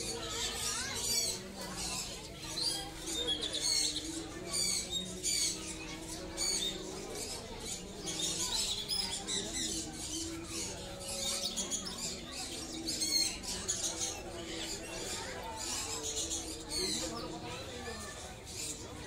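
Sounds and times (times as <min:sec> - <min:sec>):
cage birds chirping: 0:00.0 - 0:19.0
low background murmur: 0:00.0 - 0:19.0.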